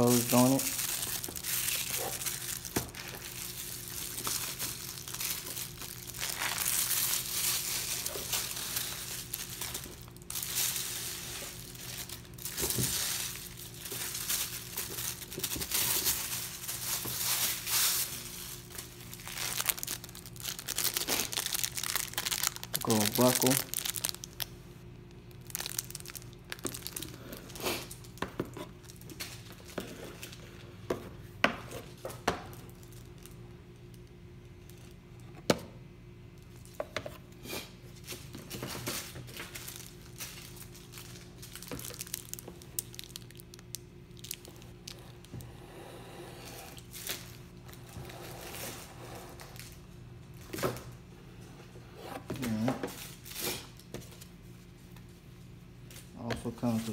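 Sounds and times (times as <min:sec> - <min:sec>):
plastic wrapping crinkling and tearing: 0:00.0 - 0:30.4, 0:31.9 - 0:35.0, 0:37.9 - 0:45.4, 0:46.7 - 0:50.9, 0:52.4 - 0:54.4
low steady hum: 0:00.0 - 0:56.9.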